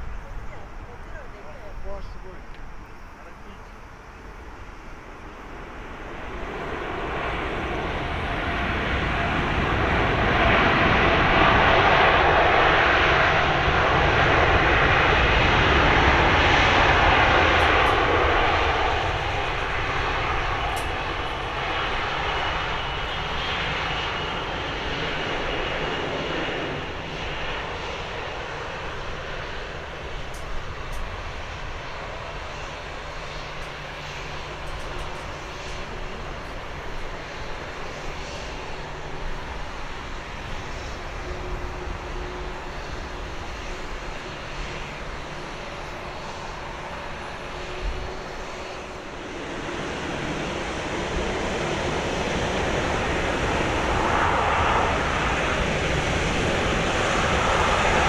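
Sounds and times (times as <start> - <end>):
jet engines rumbling on landing: 0.0 - 58.0.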